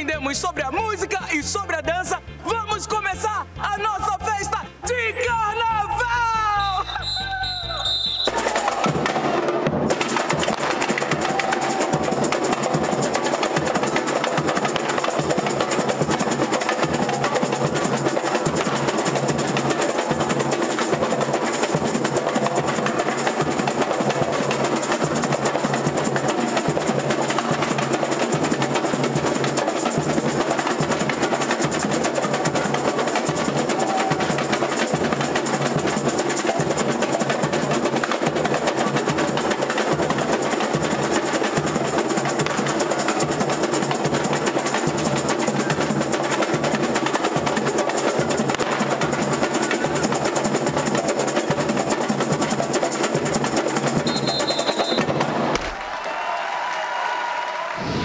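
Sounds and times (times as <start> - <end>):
samba percussion ensemble: 2.8 - 55.9.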